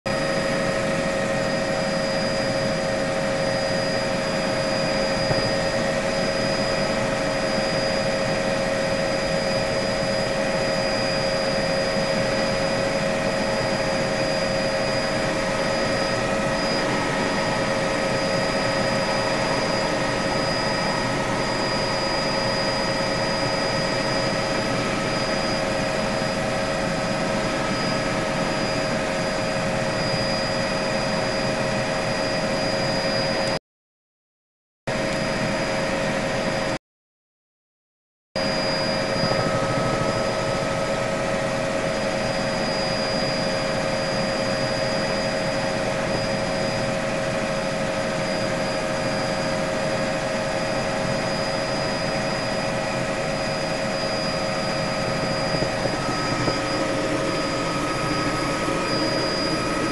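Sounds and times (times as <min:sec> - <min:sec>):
helicopter engine running: 0:00.1 - 0:33.6, 0:34.9 - 0:36.8, 0:38.4 - 0:59.9
high whining tones: 0:00.1 - 0:33.6, 0:38.4 - 0:59.9.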